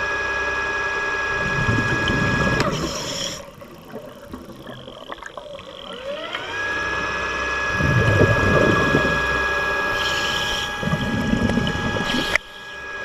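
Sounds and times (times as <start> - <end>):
underwater motor whine: 0.0 - 13.0
diver's exhaust bubbles: 1.3 - 12.7.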